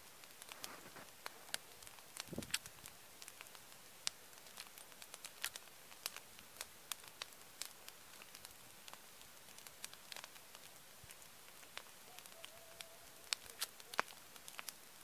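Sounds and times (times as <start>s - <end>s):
bonfire crackling and popping: 0.0s - 15.0s
faint steady hiss: 0.0s - 15.0s.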